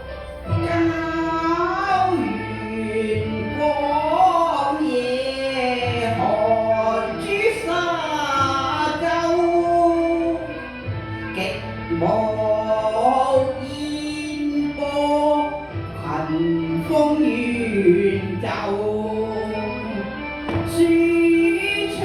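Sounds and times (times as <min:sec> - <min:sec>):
musical accompaniment: 0:00.0 - 0:22.0
opera-style melody with pitch bends: 0:00.0 - 0:22.0.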